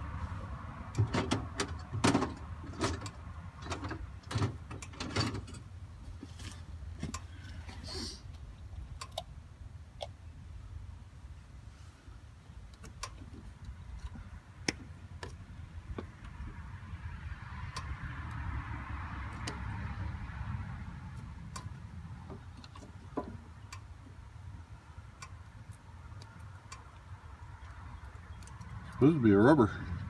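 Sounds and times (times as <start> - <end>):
steady low rumble: 0.0 - 7.2, 8.2 - 30.0.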